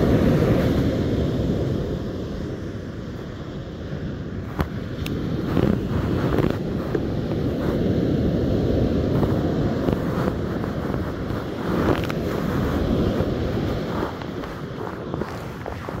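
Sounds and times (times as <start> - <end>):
breaking surf: 0.0 - 16.0
wind buffeting microphone: 0.0 - 16.0.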